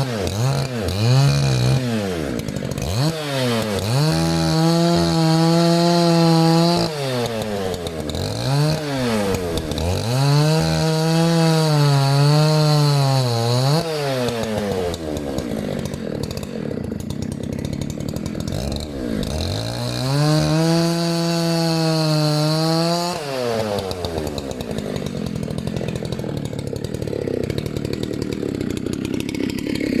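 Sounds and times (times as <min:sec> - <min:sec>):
chainsaw revving and idling: 0:00.0 - 0:30.0.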